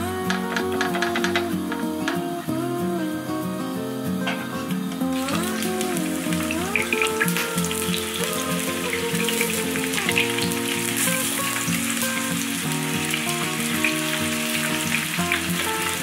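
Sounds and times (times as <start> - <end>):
hot oil sizzling in a frying pan: 0.0 - 4.0, 4.8 - 16.0.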